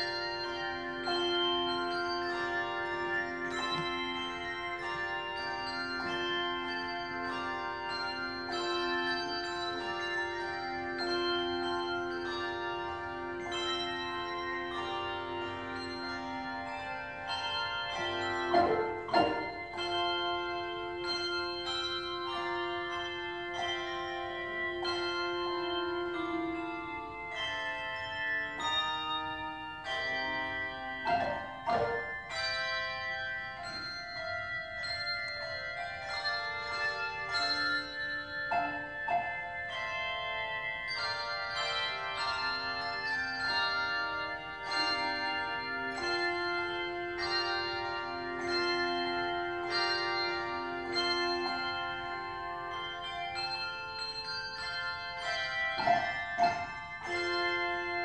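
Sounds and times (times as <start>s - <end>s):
handbell choir ringing a hymn: 0.0s - 58.0s.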